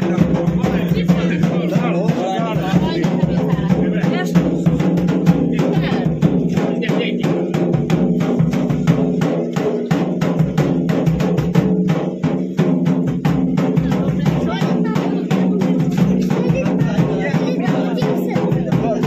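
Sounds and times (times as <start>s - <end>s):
quick steady drum beat: 0.0s - 19.0s.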